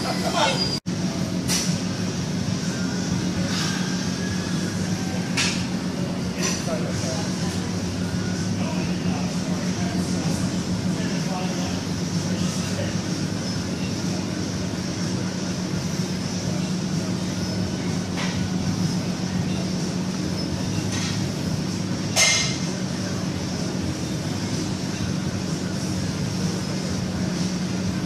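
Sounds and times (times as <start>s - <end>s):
gym machinery humming: 0.0s - 28.0s.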